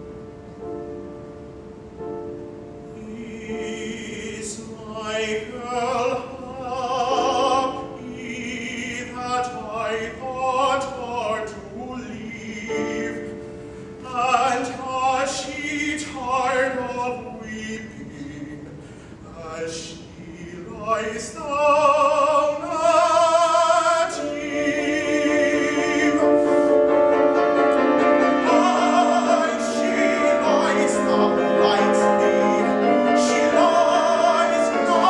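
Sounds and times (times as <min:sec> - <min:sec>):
piano accompaniment: 0:00.0 - 0:35.0
tenor singing with vibrato: 0:02.8 - 0:35.0.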